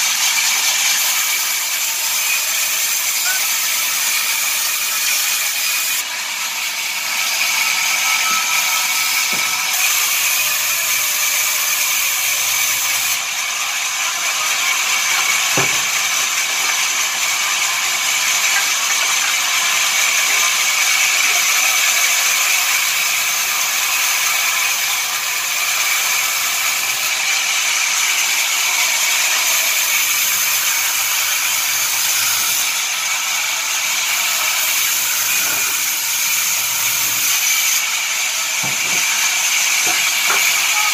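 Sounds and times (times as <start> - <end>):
saw whining: 0.0 - 40.9.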